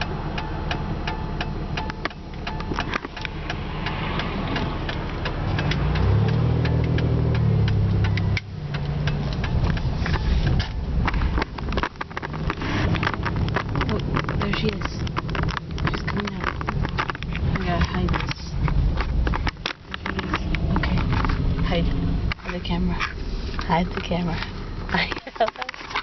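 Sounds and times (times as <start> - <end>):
car engine idling: 0.0 - 26.0
fast steady clicking: 0.0 - 26.0.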